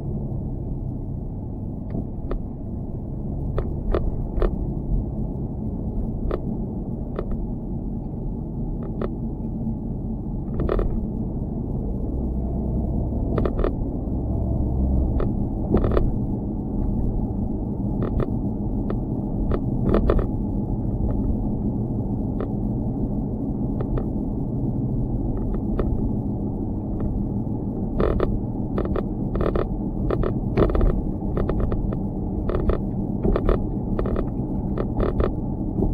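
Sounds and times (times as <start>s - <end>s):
steady low rumble: 0.0s - 35.9s.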